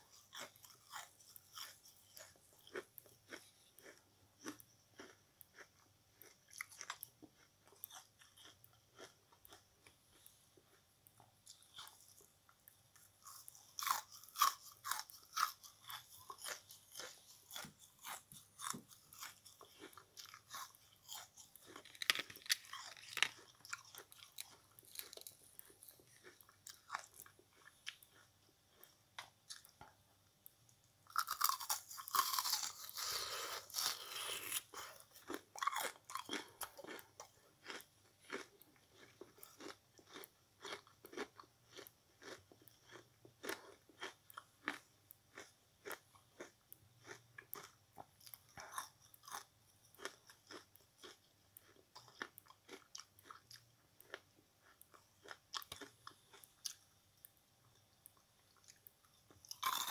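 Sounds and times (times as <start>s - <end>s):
chewing sponge with crunches: 0.0s - 30.0s, 30.6s - 59.9s.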